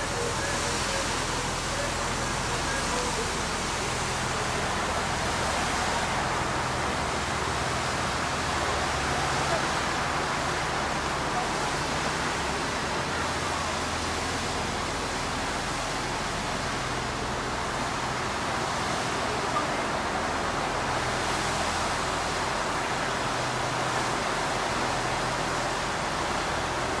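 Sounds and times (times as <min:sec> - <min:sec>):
high-pressure water jet hissing: 0:00.0 - 0:27.0.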